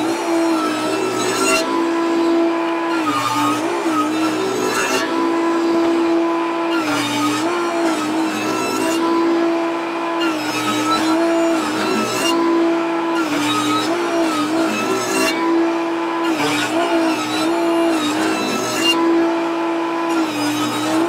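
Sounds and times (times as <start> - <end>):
saw blade cutting wood: 0.0 - 21.0
table saw motor hum: 0.0 - 21.0.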